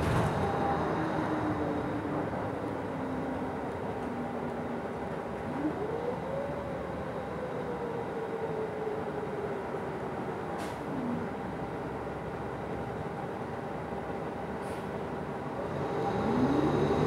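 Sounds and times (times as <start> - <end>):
bus drivetrain rumble: 0.0 - 17.0.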